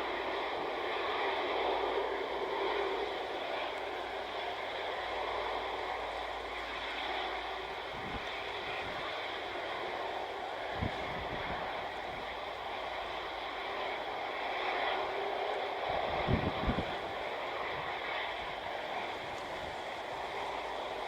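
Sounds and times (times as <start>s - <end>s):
jet engines running: 0.0s - 21.0s
wind buffeting microphone: 1.4s - 14.3s, 15.1s - 21.0s.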